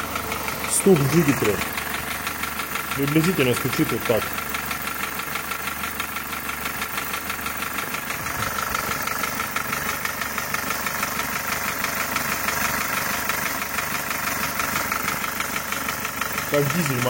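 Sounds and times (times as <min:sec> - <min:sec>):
engine idling with rapid knock: 0:00.0 - 0:17.0.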